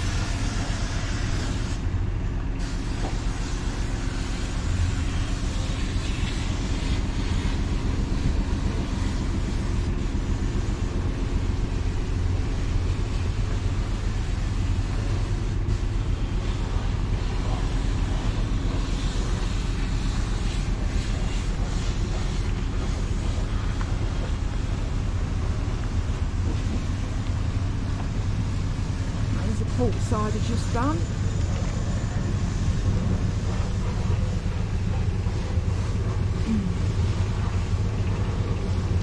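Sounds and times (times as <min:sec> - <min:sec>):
constant rushing noise: 0:00.0 - 0:39.0
engine-like drone: 0:00.0 - 0:39.0.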